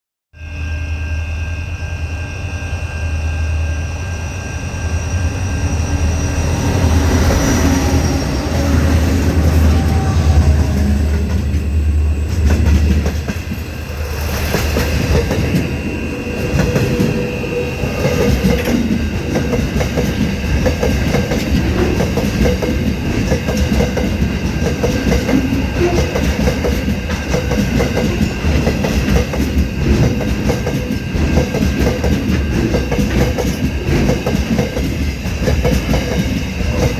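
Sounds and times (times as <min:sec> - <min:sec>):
deep train rumble: 0:02.1 - 0:36.9.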